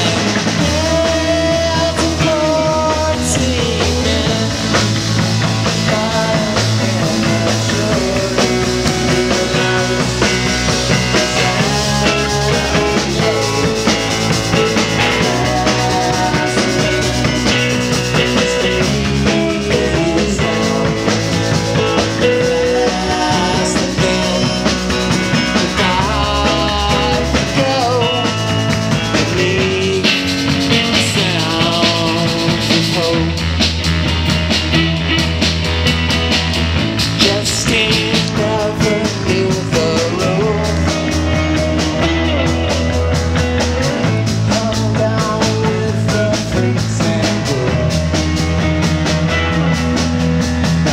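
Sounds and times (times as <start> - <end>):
bass guitar: 0.0 - 50.9
drum kit: 0.0 - 50.9
electric guitar: 0.0 - 50.9
keyboard: 0.0 - 50.9.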